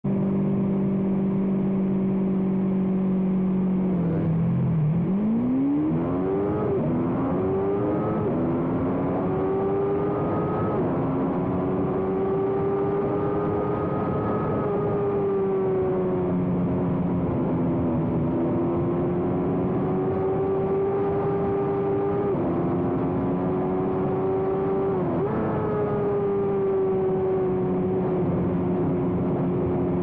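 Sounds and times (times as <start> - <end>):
racing motorcycle engine revving: 0.4 - 30.0.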